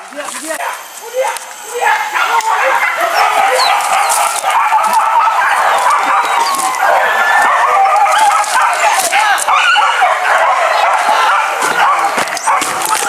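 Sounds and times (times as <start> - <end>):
dogs yelping and baying: 0.0 - 13.0.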